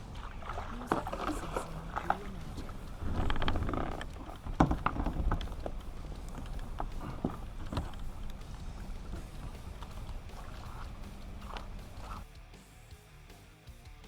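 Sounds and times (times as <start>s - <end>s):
low rumble: 0.0s - 12.2s
paddle knocking kayak hull: 0.0s - 12.2s.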